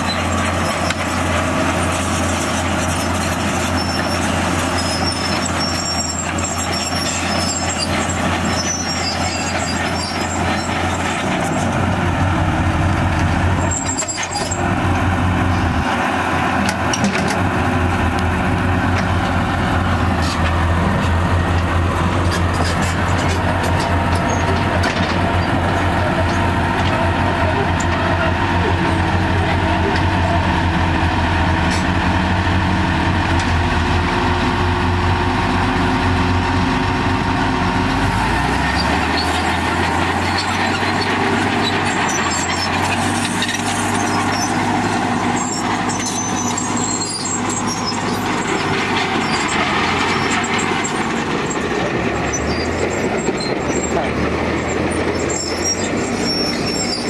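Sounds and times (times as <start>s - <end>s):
heavy diesel engines under load: 0.0s - 57.0s.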